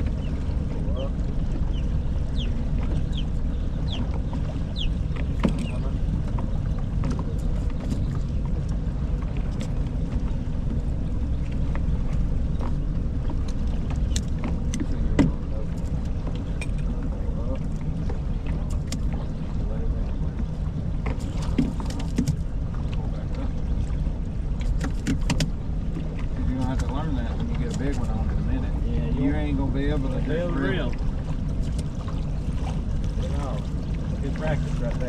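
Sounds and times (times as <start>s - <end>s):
boat engine rumble: 0.0s - 35.0s.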